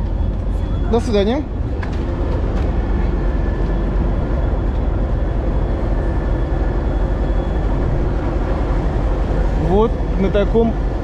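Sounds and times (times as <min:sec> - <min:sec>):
diesel locomotive engine rumbling: 0:00.0 - 0:11.0.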